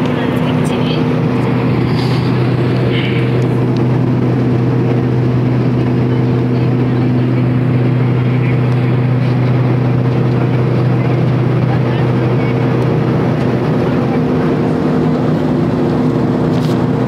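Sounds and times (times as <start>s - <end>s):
propeller plane engines in cabin: 0.0s - 17.0s.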